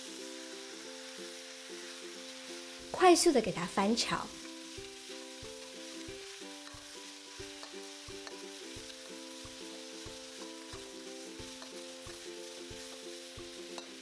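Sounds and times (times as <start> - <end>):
soft slow background music: 0.0 - 3.0, 4.3 - 14.0
meat sizzling in a wok: 0.0 - 14.0
metal spatula stir-frying: 0.0 - 14.0.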